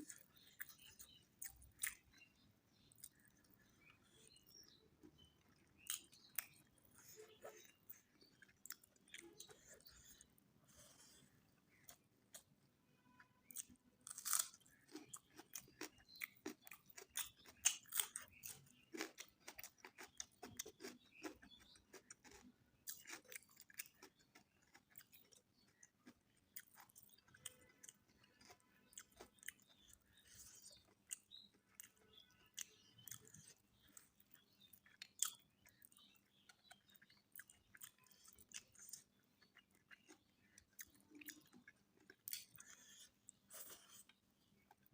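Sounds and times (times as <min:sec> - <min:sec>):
person chewing food: 0:00.0 - 0:12.6, 0:13.4 - 0:44.9.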